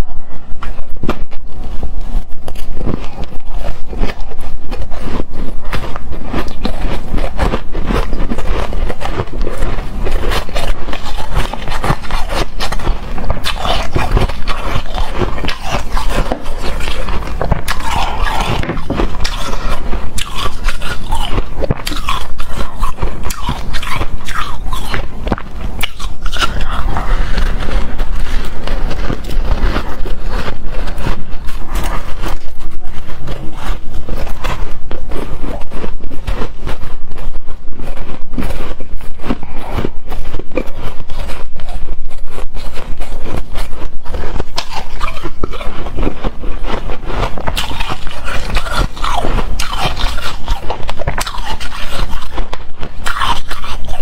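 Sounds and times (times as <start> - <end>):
chewing crunchy shaved ice: 0.0 - 54.0.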